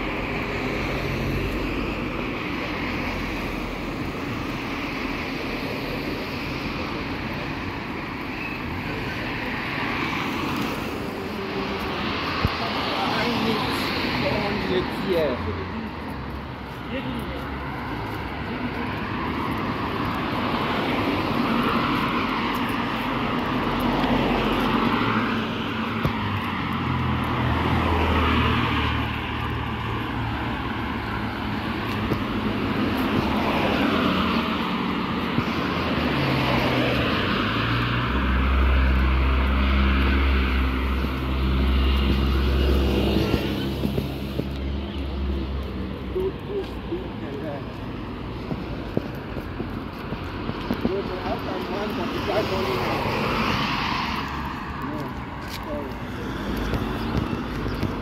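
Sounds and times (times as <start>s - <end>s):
cars driving by: 0.0s - 58.0s.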